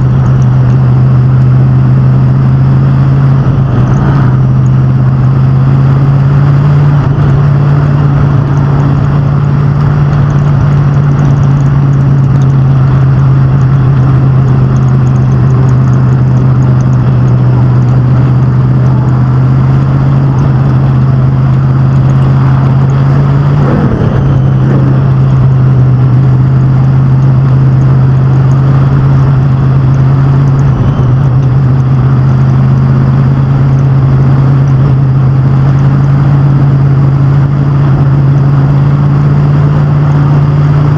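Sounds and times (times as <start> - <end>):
racing engines droning: 0.0 - 40.9.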